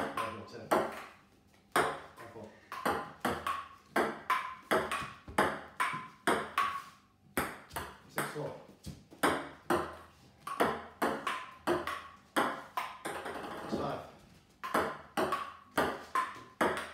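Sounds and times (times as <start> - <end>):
table tennis ball hits: 0.0 - 8.5, 9.1 - 13.9, 14.6 - 16.9.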